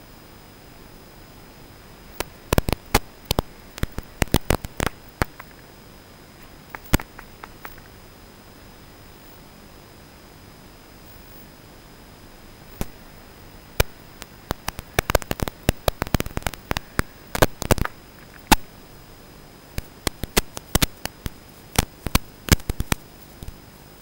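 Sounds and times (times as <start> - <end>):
sharp static crackles: 0.0 - 24.0
static hiss: 0.0 - 24.0.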